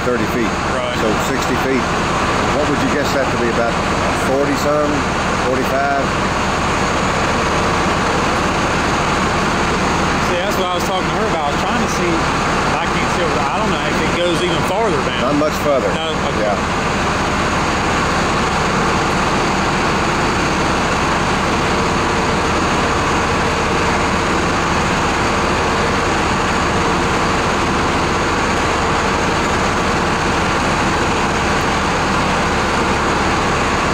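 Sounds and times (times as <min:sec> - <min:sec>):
heavy engine droning: 0:00.0 - 0:33.9.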